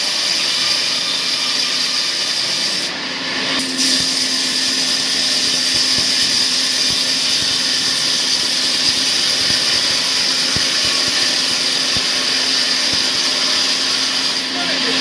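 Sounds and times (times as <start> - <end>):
sawmill saw cutting wood: 0.0 - 15.0.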